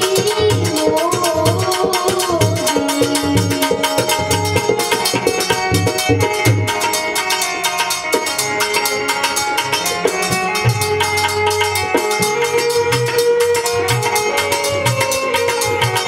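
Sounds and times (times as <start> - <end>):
electronic keyboard: 0.0 - 16.0
harmonium: 0.0 - 16.0
tabla playing: 0.0 - 16.0.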